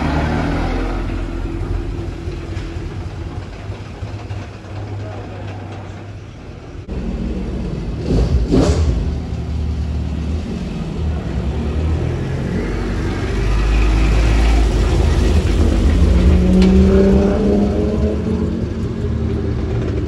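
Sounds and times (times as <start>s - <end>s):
car engine rumbling and revving: 0.0s - 20.0s.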